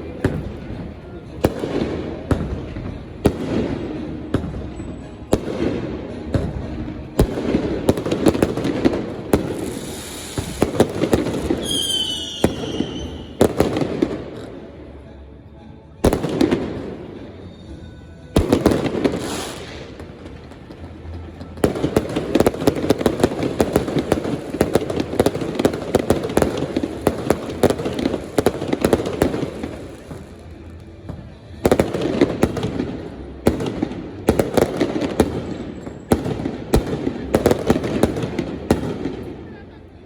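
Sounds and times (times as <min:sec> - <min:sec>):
fireworks crackling: 0:00.0 - 0:14.7, 0:18.4 - 0:40.0.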